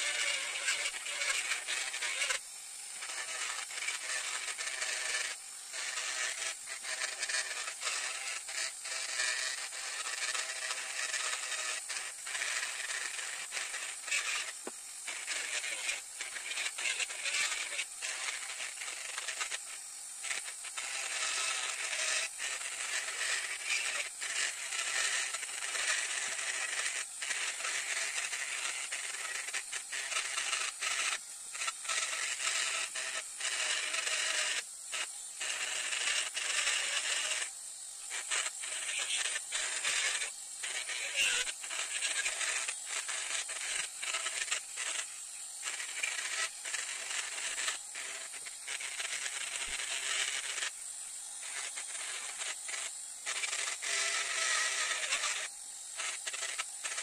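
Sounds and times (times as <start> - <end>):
rotary tool grinding wood: 0.0 - 57.0.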